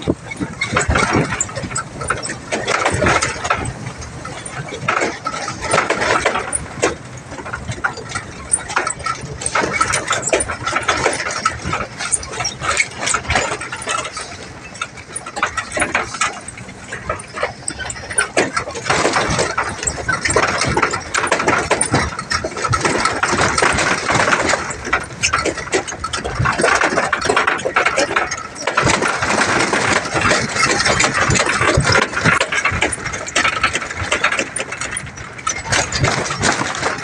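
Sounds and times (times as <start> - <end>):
truck engine running: 0.0 - 37.0
wood and truck body rattling: 0.0 - 37.0.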